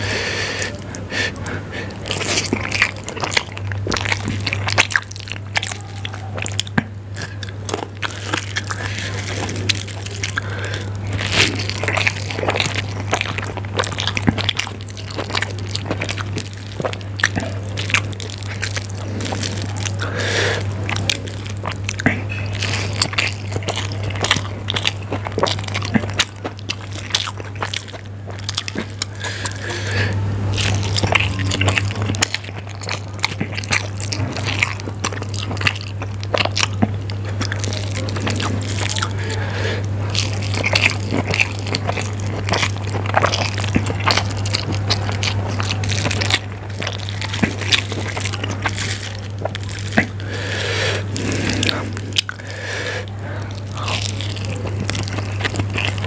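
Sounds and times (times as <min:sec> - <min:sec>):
person chewing noodles: 0:00.0 - 0:56.0
wet squishing of noodles: 0:00.0 - 0:56.0.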